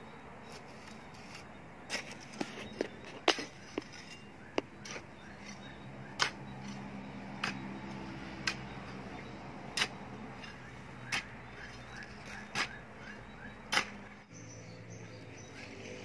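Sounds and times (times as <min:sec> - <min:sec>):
hoe chopping and scraping soil: 0:00.4 - 0:14.4.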